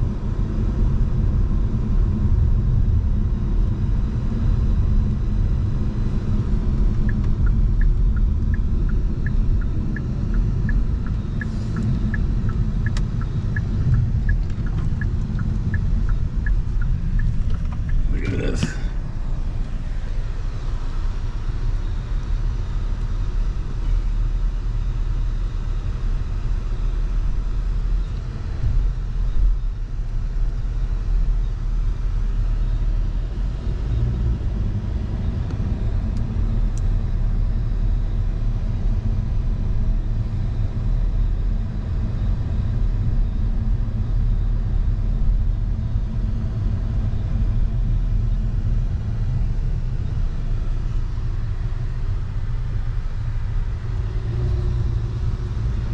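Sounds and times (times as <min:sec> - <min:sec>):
car driving slowly: 0:00.0 - 0:55.9.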